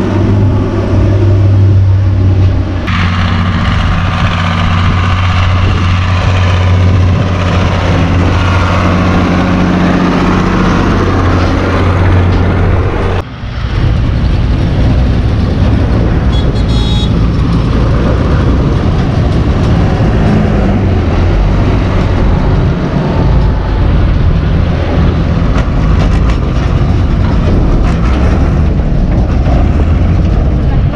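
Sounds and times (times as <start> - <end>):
diesel tractor engines running: 0.0 - 30.9.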